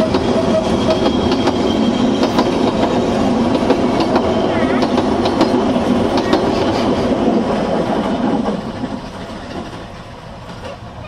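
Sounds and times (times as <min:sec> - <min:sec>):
train carriages rolling on track: 0:00.0 - 0:11.0
wheels clacking over rail joints: 0:00.0 - 0:11.0.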